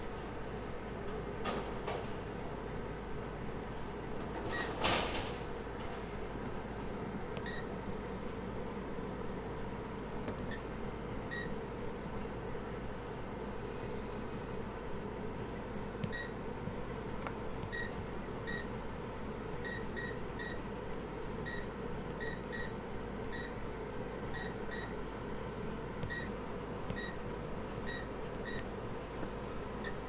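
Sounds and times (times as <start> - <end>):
background hum: 0.0 - 30.0.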